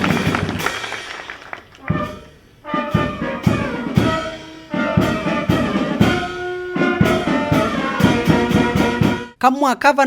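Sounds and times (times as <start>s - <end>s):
brass-led music: 0.0s - 9.4s
drum beats: 0.0s - 9.4s.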